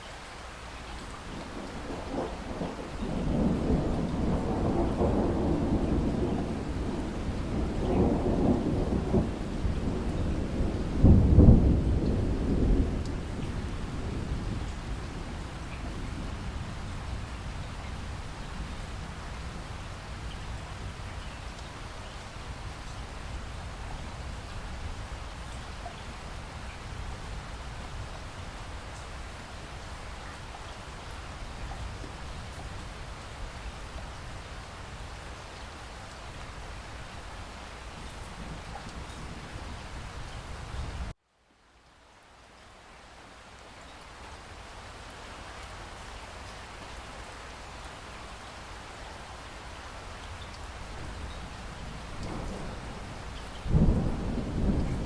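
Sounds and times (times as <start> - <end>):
raindrops: 0.0 - 55.0
steady rain hiss: 0.0 - 55.0.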